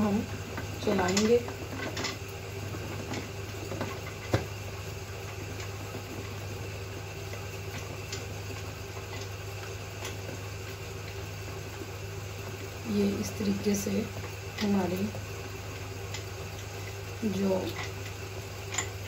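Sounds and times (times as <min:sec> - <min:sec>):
food mincer motor hum: 0:00.0 - 0:19.0.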